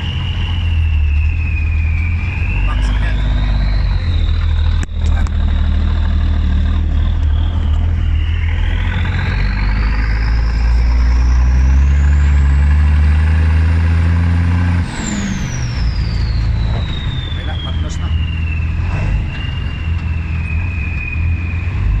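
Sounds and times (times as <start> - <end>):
high whine climbing in pitch: 0.0 - 22.0
truck engine accelerating: 0.0 - 22.0.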